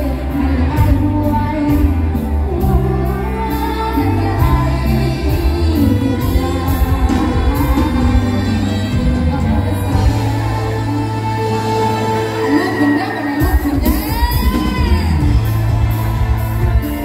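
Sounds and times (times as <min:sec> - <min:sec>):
live band over pa system: 0:00.0 - 0:17.0
person singing: 0:00.0 - 0:17.0.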